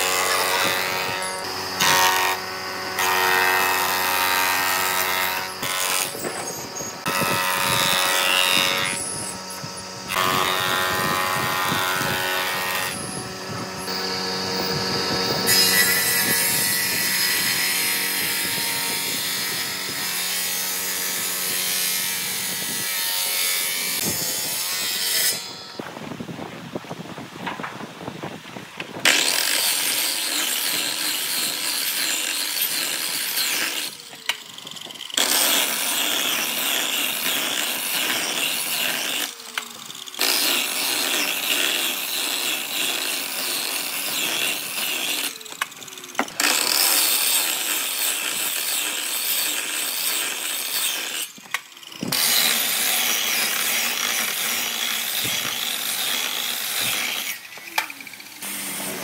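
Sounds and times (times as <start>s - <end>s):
power woodworking tool cutting wood: 0.0s - 25.9s, 29.0s - 59.0s.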